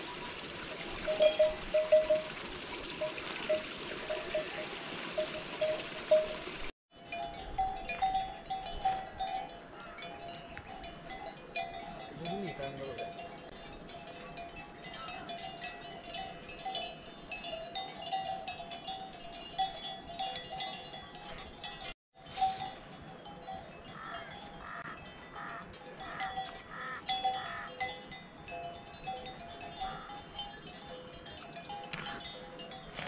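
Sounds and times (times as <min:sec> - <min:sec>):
cattle bells clinking and ringing: 0:00.8 - 0:33.0.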